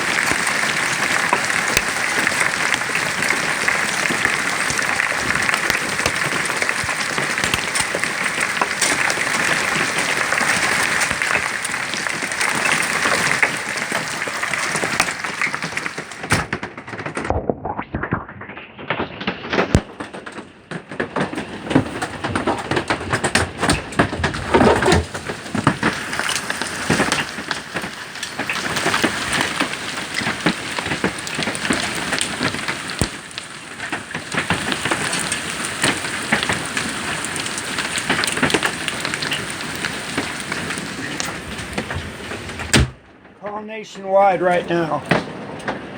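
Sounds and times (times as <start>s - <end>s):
hail and rain pelting down: 0.0s - 17.4s, 18.8s - 45.9s.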